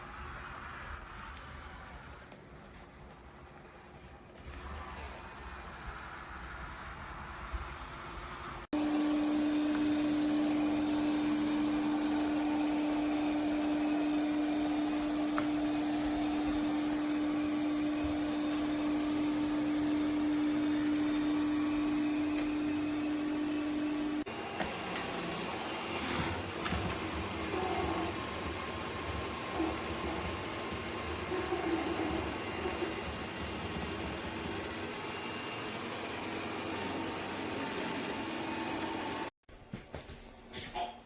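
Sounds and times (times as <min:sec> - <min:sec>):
vacuum motor humming: 0:04.3 - 0:39.3.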